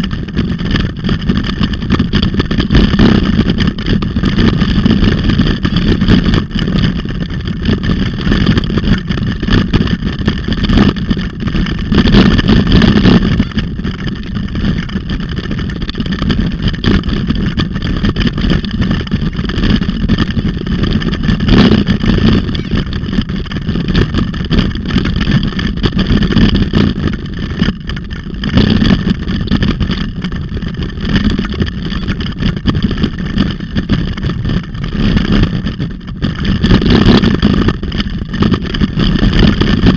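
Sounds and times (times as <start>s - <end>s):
bicycle rattling on dirt road: 0.0s - 39.9s
wind rushing over microphone: 0.0s - 39.9s.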